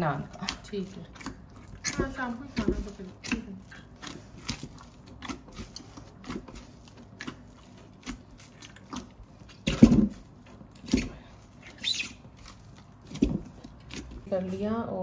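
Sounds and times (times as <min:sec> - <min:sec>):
dough squelching and slapping: 0:00.0 - 0:14.6.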